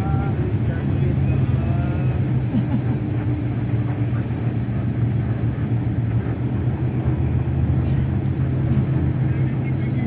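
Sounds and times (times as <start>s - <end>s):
vehicle rumbling in motion: 0.0s - 10.0s.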